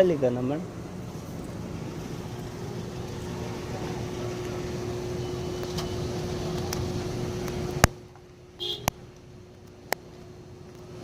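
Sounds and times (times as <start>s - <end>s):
faint constant hum: 0.0s - 11.0s
vehicle rumble: 0.0s - 11.0s.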